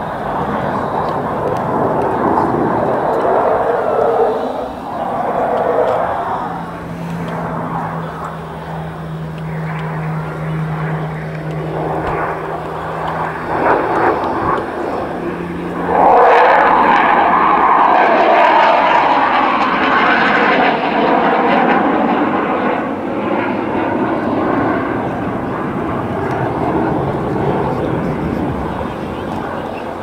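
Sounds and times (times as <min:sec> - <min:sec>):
aircraft engines hum: 0:00.0 - 0:30.0
aircraft engines roaring overhead: 0:00.0 - 0:30.0.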